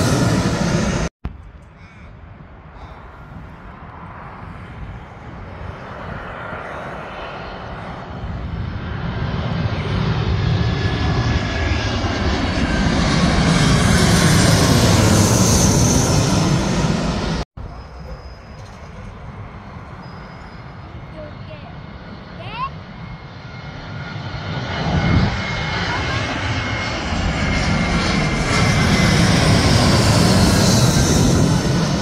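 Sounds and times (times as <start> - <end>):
jet airliner engine roar overhead: 0.0 - 32.0.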